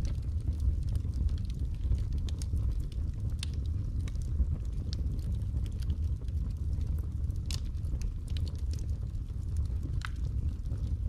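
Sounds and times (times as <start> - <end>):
flames rumbling: 0.0 - 11.0
wood crackling and popping: 0.0 - 11.0.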